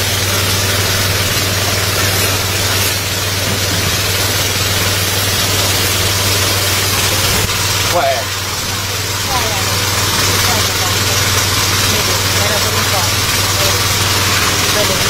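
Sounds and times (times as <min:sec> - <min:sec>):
engine-driven pump running: 0:00.0 - 0:15.0.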